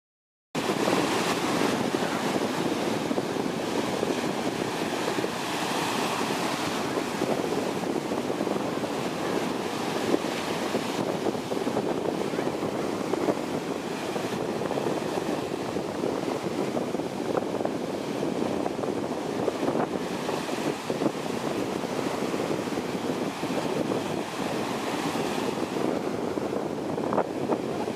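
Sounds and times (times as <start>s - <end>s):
sea surf breaking on beach: 0.6s - 27.9s.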